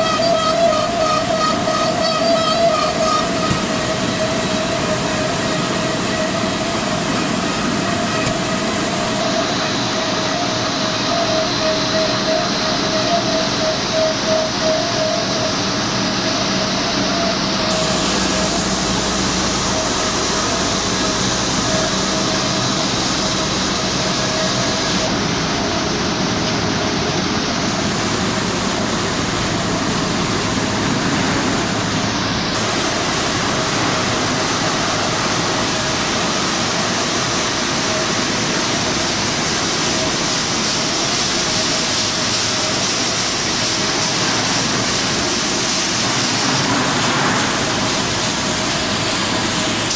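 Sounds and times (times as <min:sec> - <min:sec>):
loud machinery noise with whine: 0:00.0 - 0:49.9.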